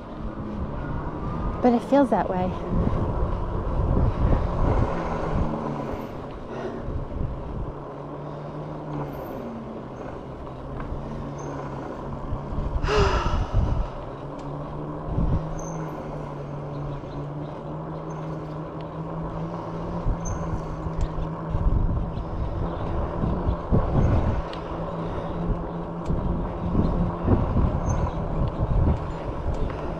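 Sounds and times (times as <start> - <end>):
steady low hum: 0.0 - 29.9
wind buffeting microphone: 0.0 - 29.9.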